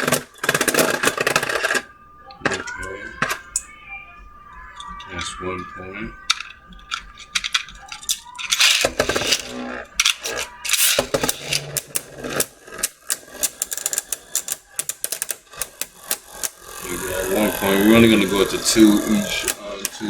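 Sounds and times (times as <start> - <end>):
plastic parts clicking and rattling: 0.0 - 3.6, 6.2 - 20.0.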